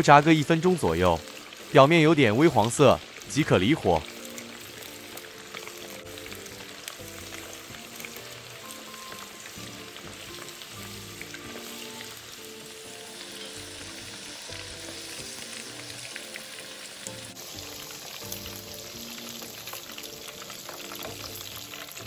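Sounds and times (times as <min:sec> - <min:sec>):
pork deep-frying in oil: 0:00.0 - 0:22.0.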